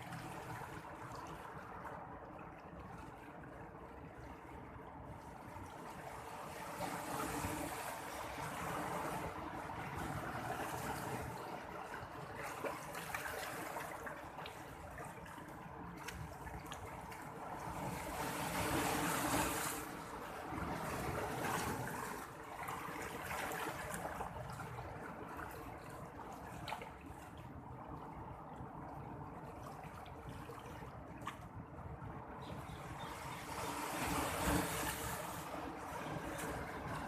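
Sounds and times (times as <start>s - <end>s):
sea water washing in waves: 0.0s - 37.0s.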